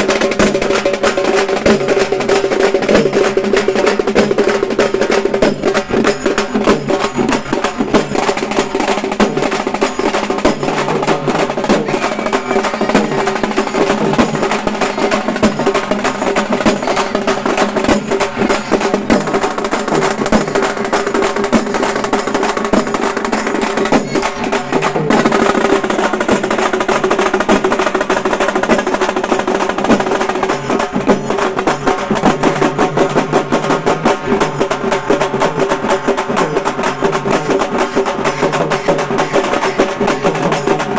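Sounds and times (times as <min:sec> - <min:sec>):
frame drums beaten with sticks: 0:00.0 - 0:40.9.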